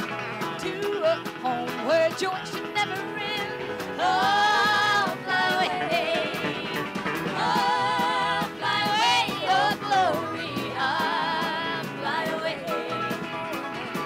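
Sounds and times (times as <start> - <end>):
acoustic guitar: 0.0 - 14.0
country band playing: 0.0 - 14.0
woman singing with vibrato: 0.6 - 13.0.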